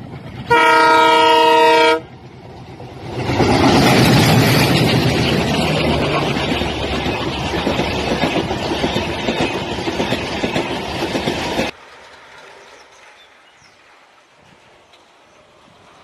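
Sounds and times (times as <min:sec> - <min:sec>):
rush of wind from train: 0:00.0 - 0:16.0
train wheel clatter: 0:02.1 - 0:16.0.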